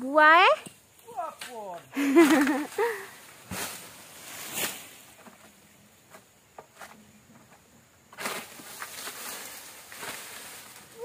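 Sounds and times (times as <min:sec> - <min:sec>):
rustling of palm fronds: 0:00.9 - 0:11.0.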